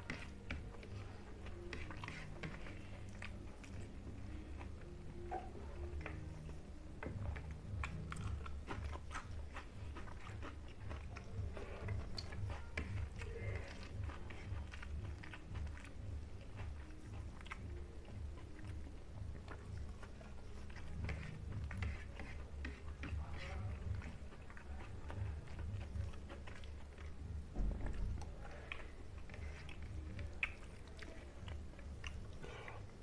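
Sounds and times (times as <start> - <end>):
person chewing and smacking: 0.0 - 33.0.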